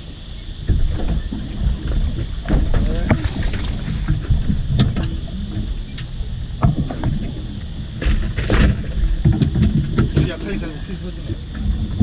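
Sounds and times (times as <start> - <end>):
water rumbling around boat hull: 0.0 - 12.0.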